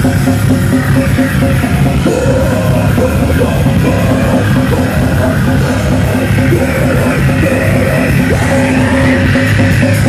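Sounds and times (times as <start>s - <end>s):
punk band playing live: 0.0s - 10.0s.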